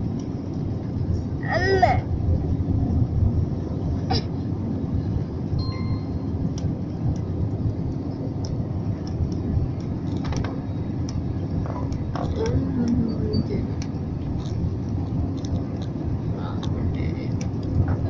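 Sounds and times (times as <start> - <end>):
jet engines rumbling in cabin: 0.0 - 18.0.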